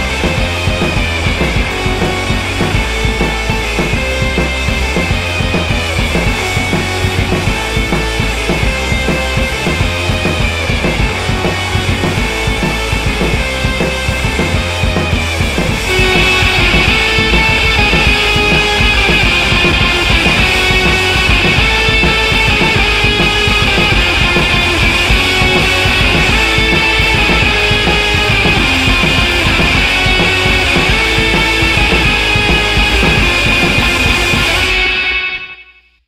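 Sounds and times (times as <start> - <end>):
drum kit: 0.0 - 35.3
electric guitar: 0.0 - 35.7.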